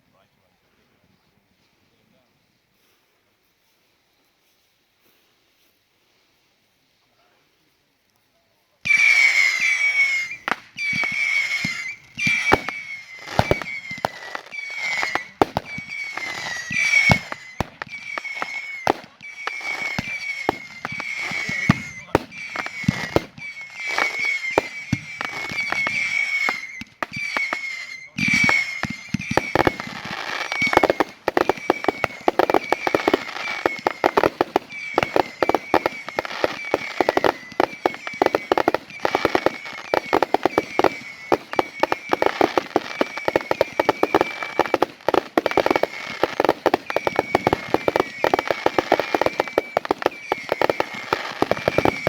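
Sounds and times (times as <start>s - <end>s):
fireworks bangs and crackles: 8.8s - 52.0s
high whistling tone: 8.9s - 52.0s.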